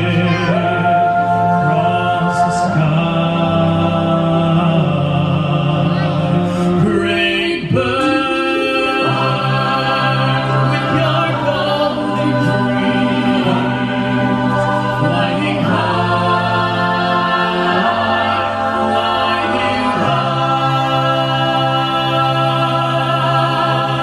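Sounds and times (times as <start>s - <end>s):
a cappella group singing in harmony: 0.0s - 24.0s.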